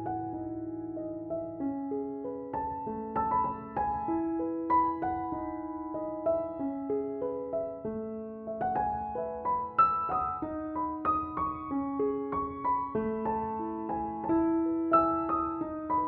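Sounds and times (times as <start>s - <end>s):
gentle solo piano: 0.0s - 16.0s.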